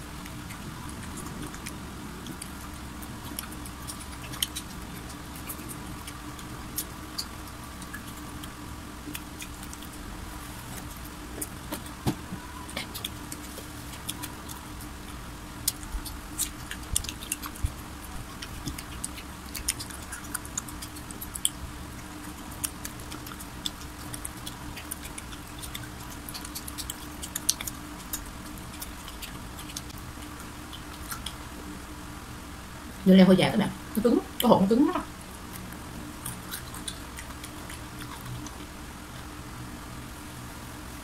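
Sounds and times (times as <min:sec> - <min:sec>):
chewing fried chicken crunches: 0:00.0 - 0:31.6, 0:35.1 - 0:39.4
faint steady hum: 0:00.0 - 0:41.0.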